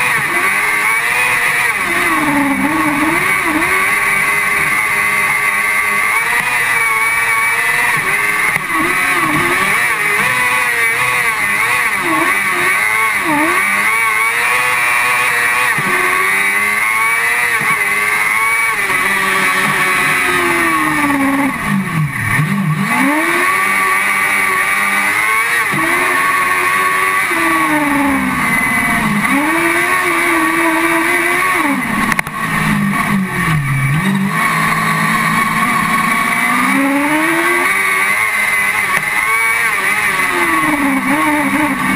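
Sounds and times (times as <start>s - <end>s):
buggy engine revving: 0.0s - 41.9s.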